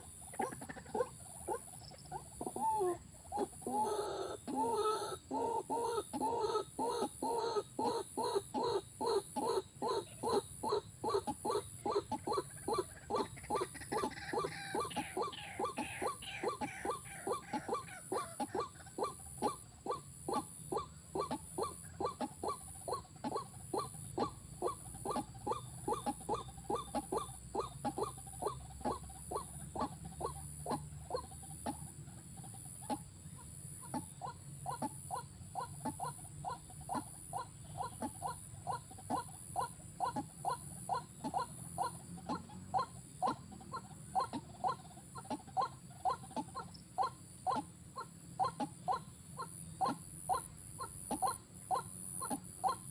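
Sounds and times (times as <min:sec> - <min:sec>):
animal chirping: 0:00.0 - 0:52.9.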